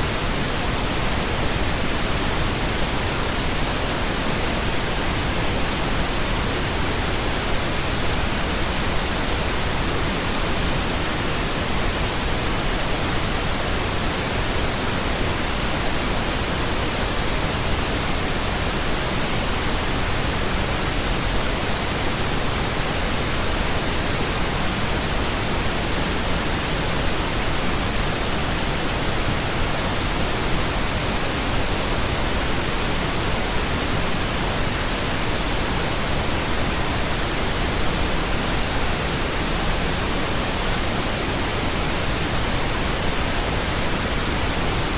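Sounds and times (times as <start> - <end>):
steady pink noise hiss: 0.0 - 44.9.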